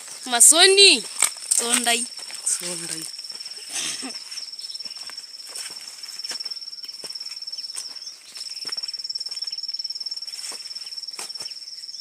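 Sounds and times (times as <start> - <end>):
insect pulsing trill: 0.0 - 12.0.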